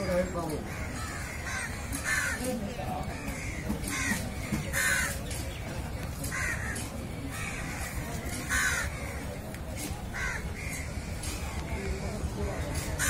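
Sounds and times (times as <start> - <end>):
crows cawing: 0.0 - 5.3, 6.2 - 13.0.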